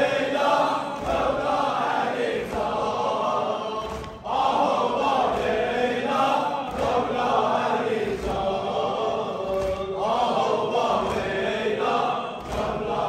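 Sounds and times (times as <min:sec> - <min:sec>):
congregation chanting: 0:00.0 - 0:13.0.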